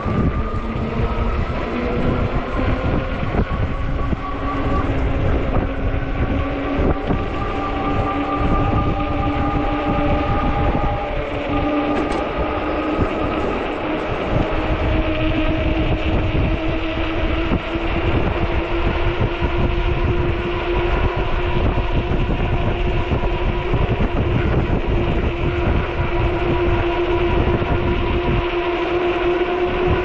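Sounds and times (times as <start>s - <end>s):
electric bike motor whine: 0.0s - 30.0s
rough road rumble: 0.0s - 30.0s
wind buffeting on microphone: 0.0s - 30.0s.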